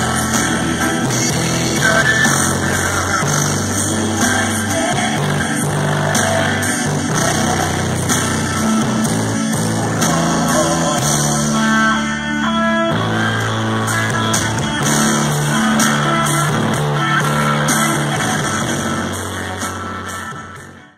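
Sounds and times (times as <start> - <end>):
gospel music through car speakers: 0.0 - 20.9.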